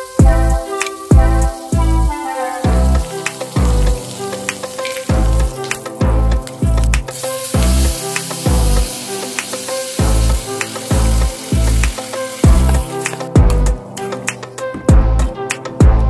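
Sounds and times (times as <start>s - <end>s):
meat sizzling in a wok: 0.0s - 13.4s
background music with deep bass beat: 0.0s - 16.0s.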